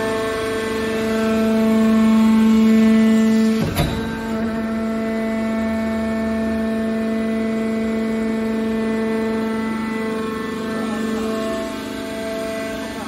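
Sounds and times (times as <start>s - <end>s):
hydraulic power unit humming: 0.0s - 13.0s.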